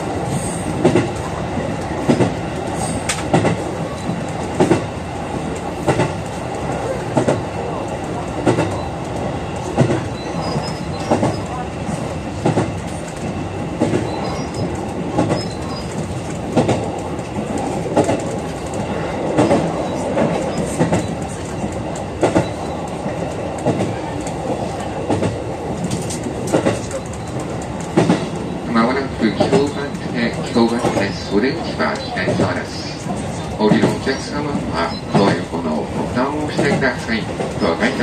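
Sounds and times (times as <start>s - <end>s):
train rumble: 0.0s - 38.0s.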